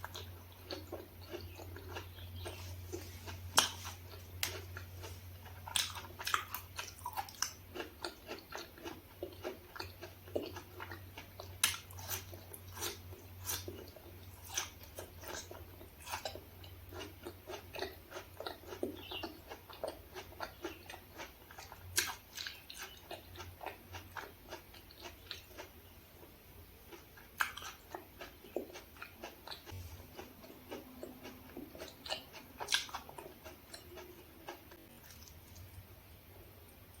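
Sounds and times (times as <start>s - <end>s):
person chewing: 0.0s - 35.9s.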